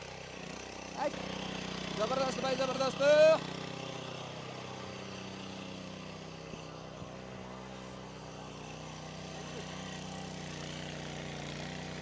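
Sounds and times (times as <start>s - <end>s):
rotavator engine droning: 0.0s - 12.0s.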